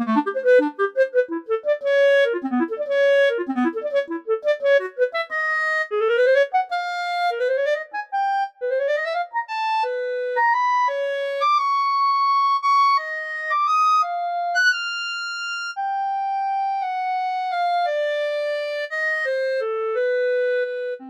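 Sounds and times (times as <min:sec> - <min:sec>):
solo clarinet melody: 0:00.0 - 0:21.0.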